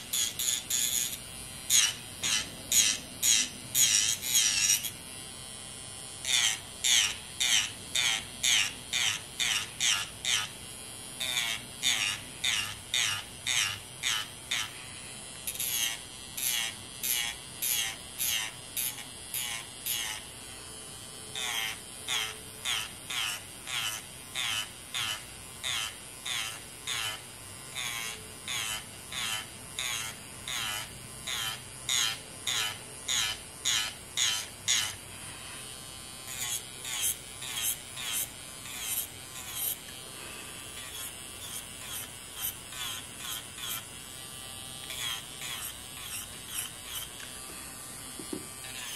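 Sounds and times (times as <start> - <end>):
electric nail file whining: 0.0 - 48.9.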